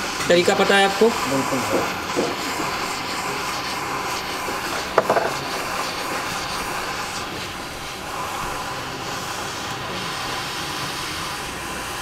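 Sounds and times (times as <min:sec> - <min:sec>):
hot air station hissing: 0:00.0 - 0:12.0.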